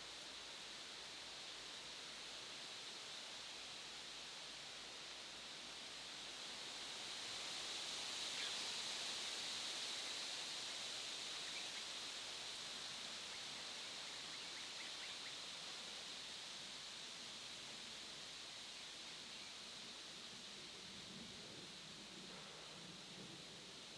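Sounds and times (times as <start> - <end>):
forest ambient hiss: 0.0 - 23.9.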